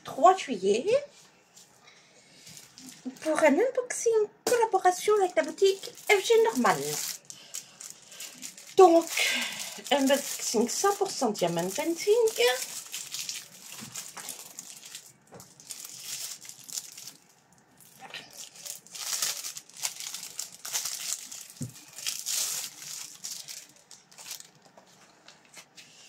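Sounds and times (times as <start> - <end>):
plastic wrap crinkling: 2.4 - 3.7, 4.6 - 25.8.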